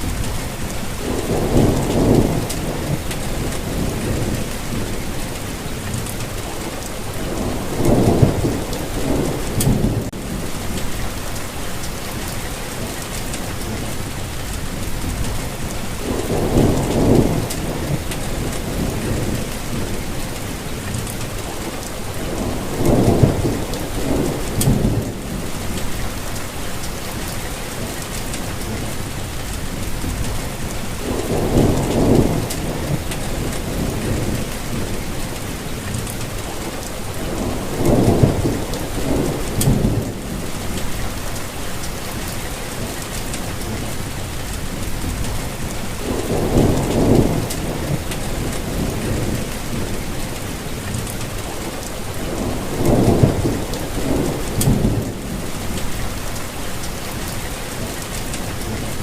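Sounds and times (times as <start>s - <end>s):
low thunder rumbles: 0.0s - 12.7s, 13.4s - 27.4s, 28.4s - 42.4s, 43.4s - 57.5s
steady rain: 0.0s - 59.0s.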